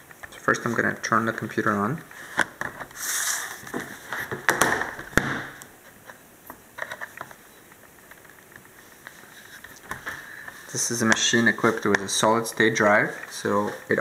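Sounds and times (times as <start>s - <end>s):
faint crackling static: 0.0s - 14.0s.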